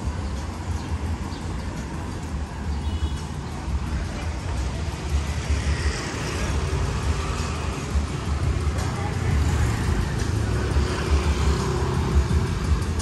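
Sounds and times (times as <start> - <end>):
cars driving past: 1.8 - 13.0.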